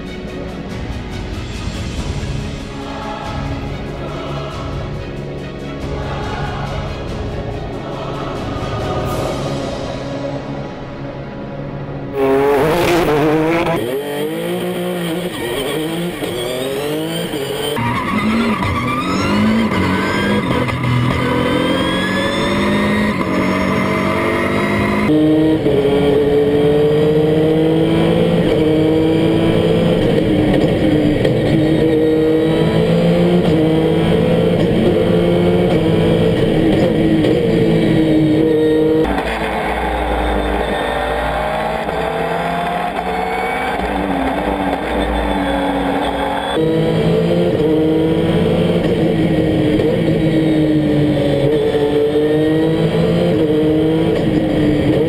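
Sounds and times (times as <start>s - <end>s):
race car engine at full throttle: 10.8s - 55.0s.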